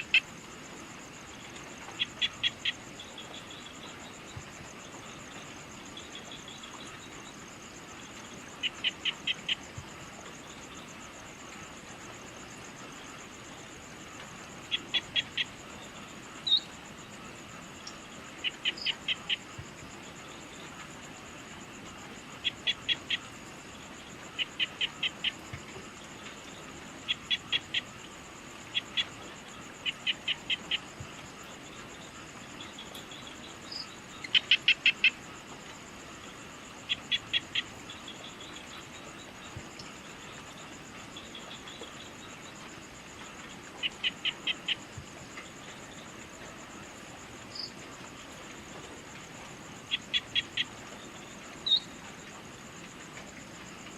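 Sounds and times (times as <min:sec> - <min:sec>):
high insect trill: 0:00.0 - 0:53.9.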